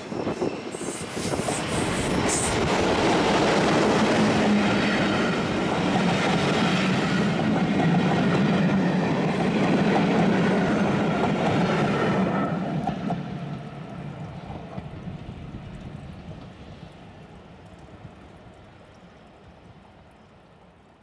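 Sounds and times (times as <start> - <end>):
diesel locomotive engine: 0.0 - 20.8.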